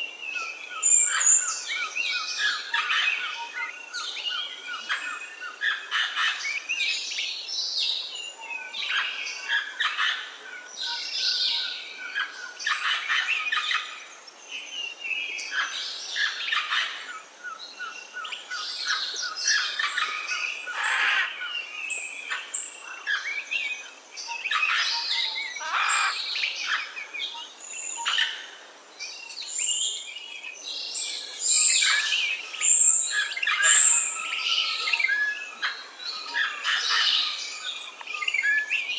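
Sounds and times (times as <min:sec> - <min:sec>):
birds chirping and singing: 0:00.2 - 0:38.9.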